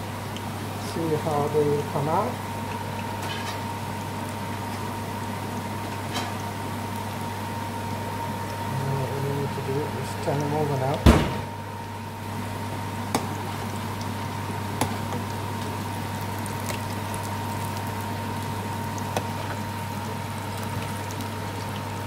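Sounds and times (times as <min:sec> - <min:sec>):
fritters sizzling in hot oil: 0:00.0 - 0:22.0
steady low hum: 0:00.0 - 0:22.0.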